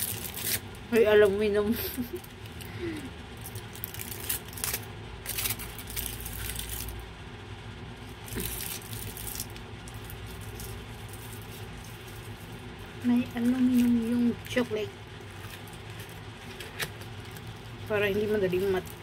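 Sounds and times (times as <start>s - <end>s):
foil wrapper crinkling: 0.0s - 1.0s, 3.3s - 7.0s, 8.0s - 19.0s.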